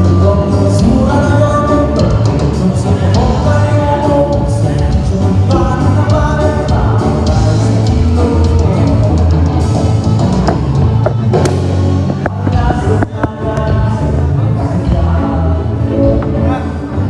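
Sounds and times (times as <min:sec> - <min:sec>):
person singing: 0:00.0 - 0:09.8, 0:12.0 - 0:17.0
band playing: 0:00.0 - 0:17.0
heavy bass line: 0:00.0 - 0:17.0.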